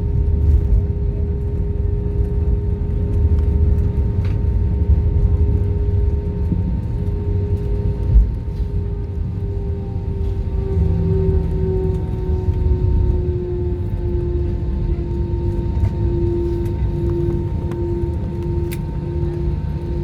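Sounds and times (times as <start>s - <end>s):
constant cabin hum: 0.0s - 20.0s
low rumble of aircraft engines: 0.0s - 20.0s.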